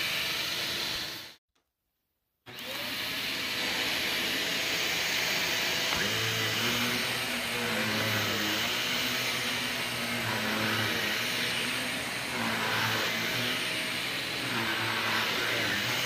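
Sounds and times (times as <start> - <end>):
stick vacuum on a rug: 2.5 - 16.0.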